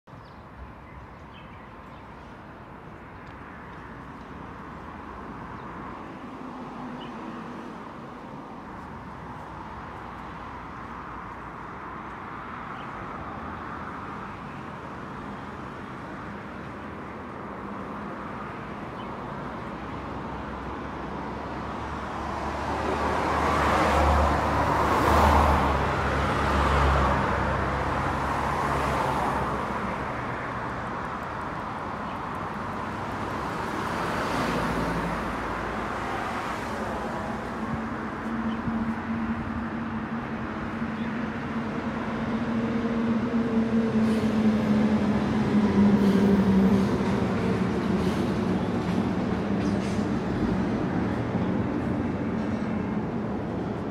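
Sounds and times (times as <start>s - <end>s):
road traffic noise: 0.0s - 53.9s.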